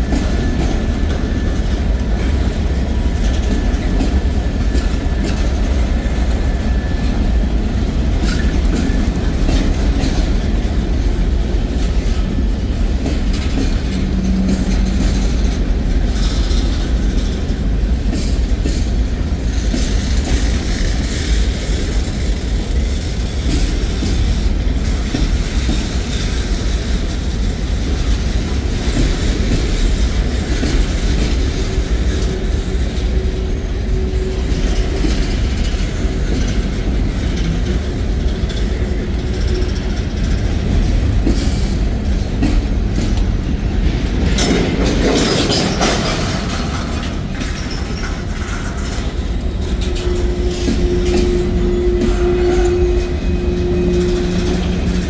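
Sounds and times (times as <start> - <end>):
clickety-clack over rail joints: 0.0 - 55.0
train wheels rumbling on rails: 0.0 - 55.0.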